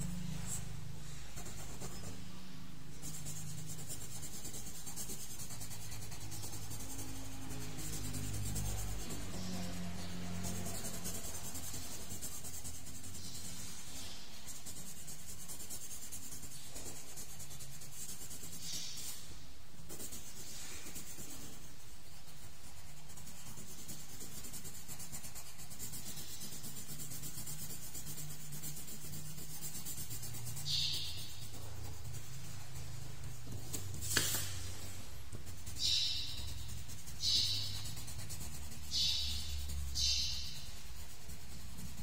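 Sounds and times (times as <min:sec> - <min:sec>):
pencil scratching on paper: 0:00.0 - 0:42.0.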